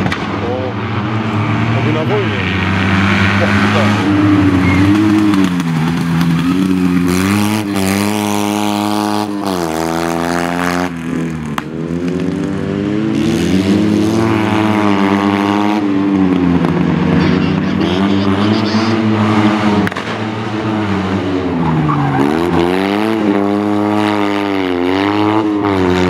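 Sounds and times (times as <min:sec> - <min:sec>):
car engine revving hard: 0:00.4 - 0:26.0.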